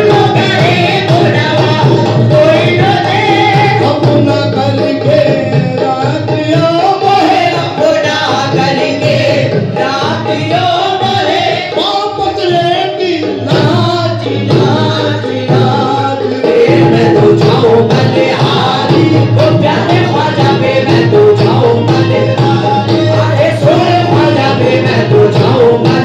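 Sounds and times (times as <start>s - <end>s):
harmonium: 0.0s - 26.0s
men singing: 0.0s - 26.0s.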